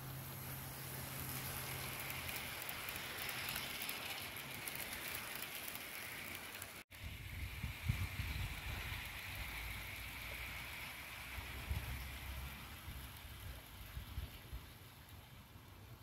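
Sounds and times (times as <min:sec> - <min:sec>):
model locomotive motor hum: 0:00.0 - 0:16.0
wagon wheels rattling on rails: 0:00.8 - 0:15.4.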